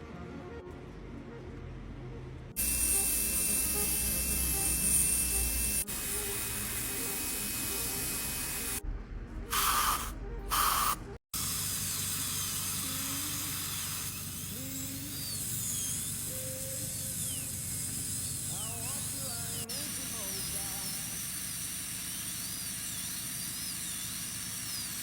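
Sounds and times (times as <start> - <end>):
air-water syringe spray bursts: 2.6 - 8.8, 9.5 - 25.0
dental equipment hissing: 2.6 - 8.8, 9.5 - 25.0.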